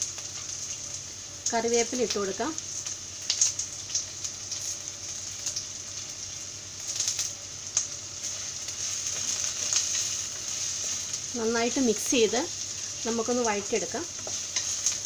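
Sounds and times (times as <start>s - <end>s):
sharp crackles in hot oil: 0.0s - 15.0s
sizzling in oil: 0.0s - 15.0s.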